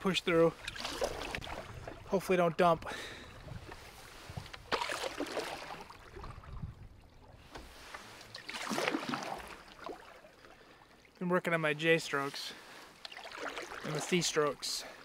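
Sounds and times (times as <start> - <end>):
paddle splashing in water: 0.5 - 2.3, 3.0 - 11.1, 12.2 - 15.0.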